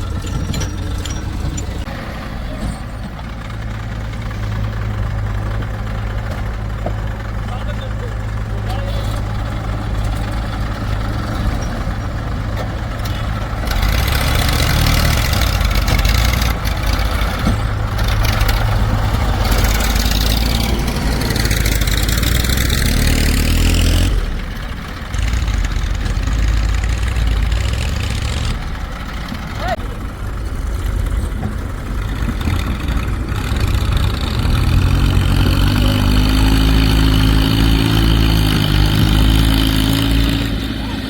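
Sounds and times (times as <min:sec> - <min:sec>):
heavy diesel machinery running: 0:00.0 - 0:41.0.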